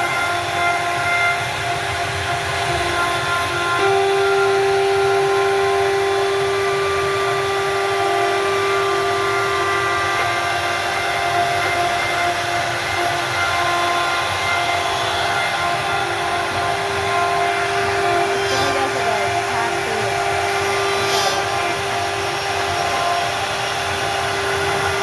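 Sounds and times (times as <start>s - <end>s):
router spindle cutting wood: 0.0s - 25.0s.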